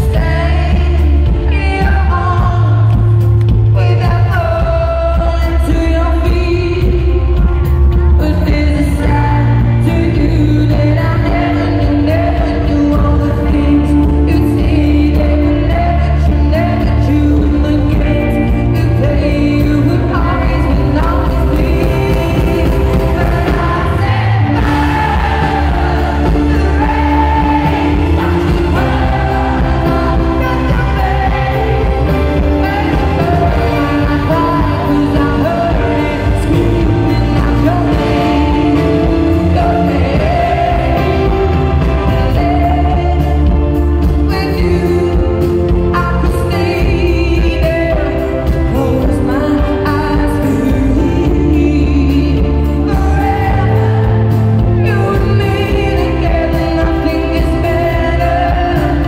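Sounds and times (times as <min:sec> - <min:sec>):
band accompaniment: 0:00.0 - 0:59.0
woman singing: 0:00.0 - 0:59.0.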